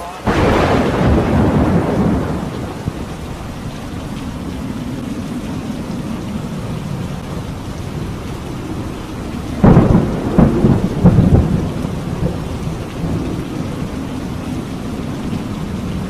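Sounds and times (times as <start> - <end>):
steady rain: 0.0 - 16.0
thunderclap rumbling: 0.2 - 16.0.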